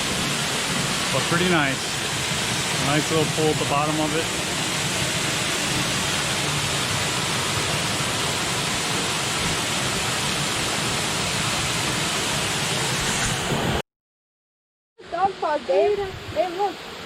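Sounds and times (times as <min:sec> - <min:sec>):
waterfall rushing into pool: 0:00.0 - 0:13.8, 0:15.1 - 0:17.0.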